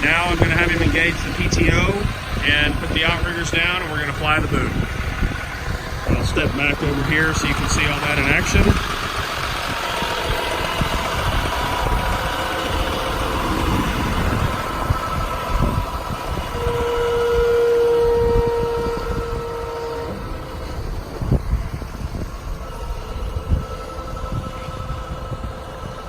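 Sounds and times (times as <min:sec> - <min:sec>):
diesel engine idling: 0:00.0 - 0:26.0
steady whine: 0:00.0 - 0:26.0.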